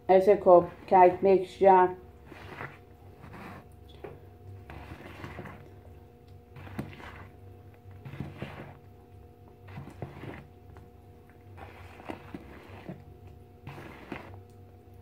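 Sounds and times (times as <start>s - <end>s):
batter stirred in bowl: 0.1s - 15.0s.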